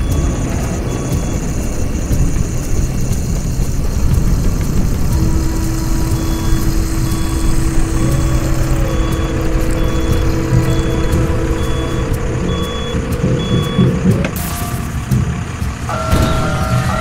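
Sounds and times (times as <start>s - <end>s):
heavy truck engine running: 0.0s - 17.0s
steady hum-like tone: 0.0s - 17.0s.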